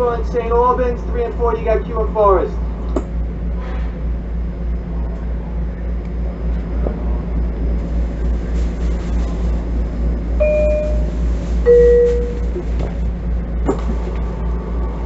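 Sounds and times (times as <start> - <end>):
train car low hum: 0.0 - 15.0.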